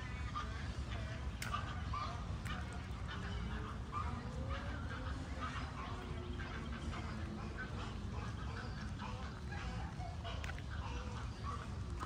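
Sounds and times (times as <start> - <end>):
waterfowl calling: 0.0 - 12.0.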